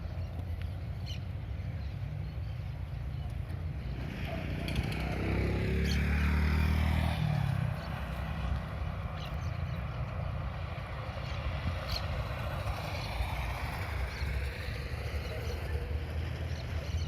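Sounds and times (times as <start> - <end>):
low rumble of traffic: 0.0 - 17.0
vehicle passing by: 3.3 - 17.0.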